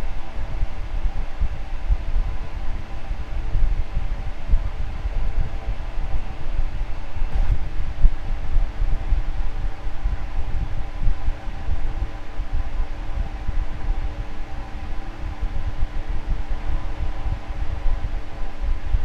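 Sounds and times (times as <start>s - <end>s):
fan running: 0.0s - 19.0s.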